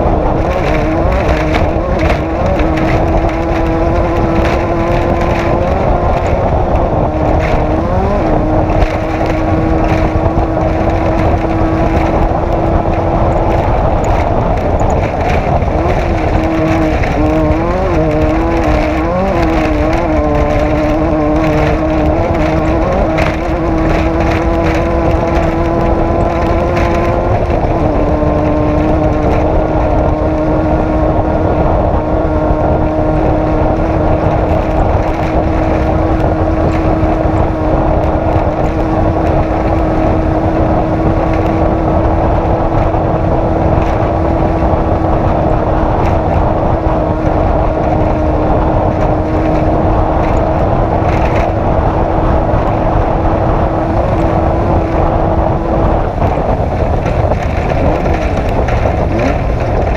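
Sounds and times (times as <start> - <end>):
race vehicle engine droning: 0.0 - 59.9
wind noise: 0.0 - 59.9.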